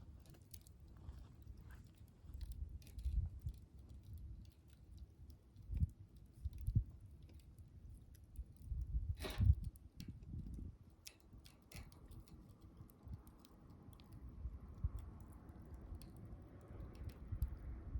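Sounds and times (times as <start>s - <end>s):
campfire crackling: 0.0s - 17.9s
low fire rumble: 0.0s - 17.9s.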